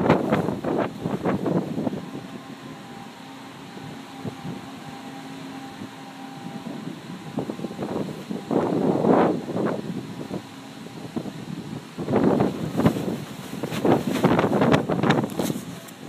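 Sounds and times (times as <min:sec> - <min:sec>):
faint steady hum: 0:00.0 - 0:16.0
wind gusting on microphone: 0:00.0 - 0:16.0.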